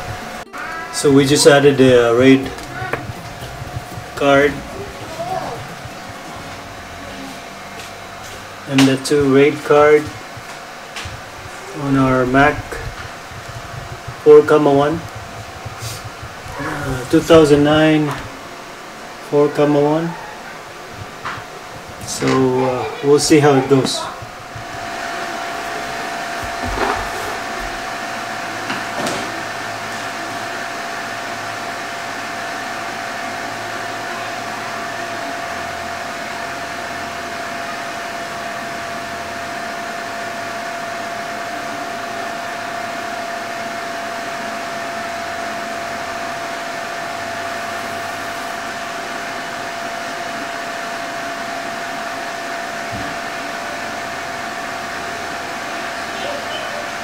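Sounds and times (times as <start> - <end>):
cooling fans whining: 0.0 - 57.0.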